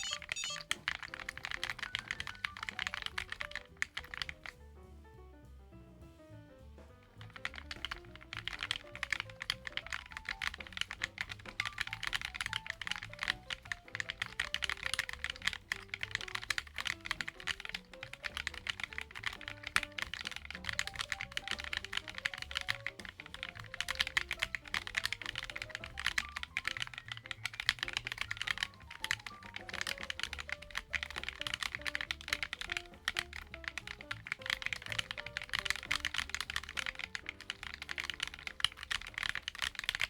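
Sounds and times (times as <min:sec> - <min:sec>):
mechanical keyboard key clacks: 0:00.0 - 0:04.6, 0:07.2 - 0:40.0
background music with simple melody: 0:00.0 - 0:40.0.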